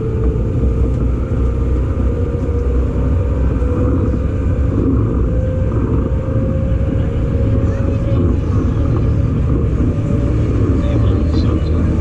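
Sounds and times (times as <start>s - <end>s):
traction motor whine: 0.0s - 12.0s
train wheels rumbling on rail: 0.0s - 12.0s.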